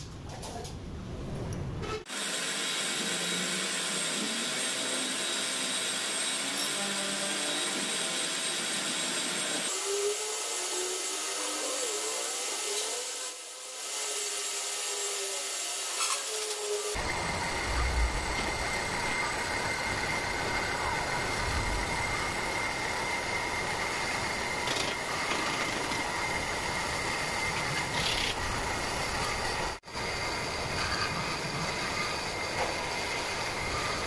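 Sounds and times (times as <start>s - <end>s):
grinding machine grinding steel: 2.2s - 34.0s.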